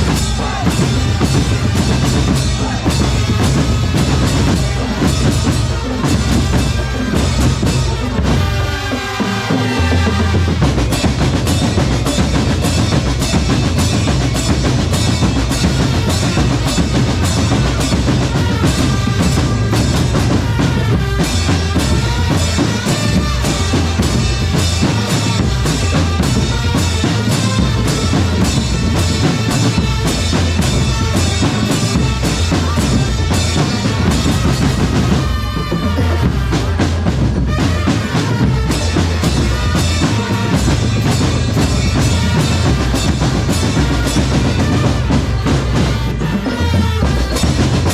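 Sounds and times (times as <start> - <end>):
bass and snare drums beating: 0.0 - 47.9.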